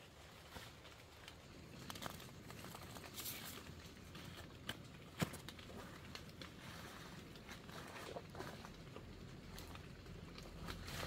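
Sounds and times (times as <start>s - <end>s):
rustling of leaves: 0.0s - 11.0s.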